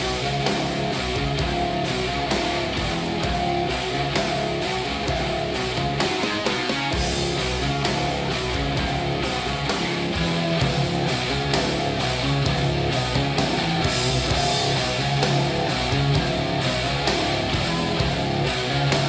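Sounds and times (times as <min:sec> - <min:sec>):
rock music through a speaker: 0:00.0 - 0:19.0.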